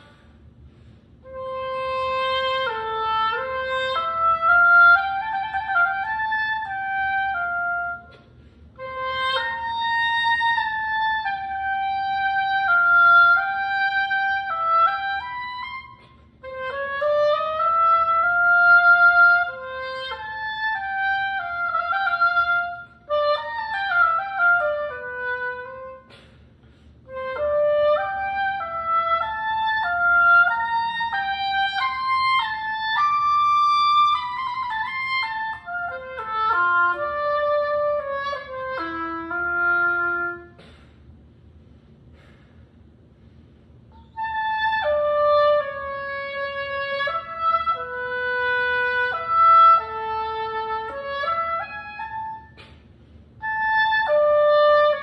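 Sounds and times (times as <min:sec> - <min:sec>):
oboe melody: 0:01.2 - 0:26.3, 0:27.0 - 0:40.8, 0:43.9 - 0:55.0.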